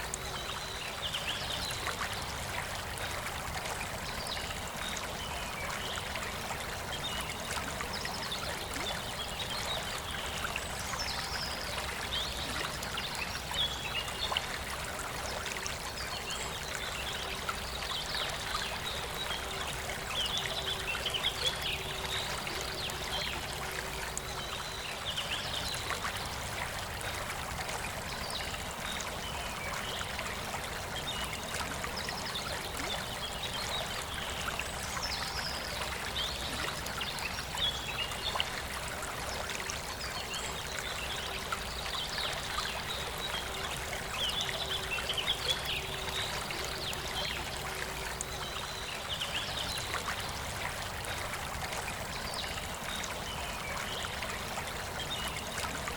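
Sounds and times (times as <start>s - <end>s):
river flowing: 0.0s - 55.9s.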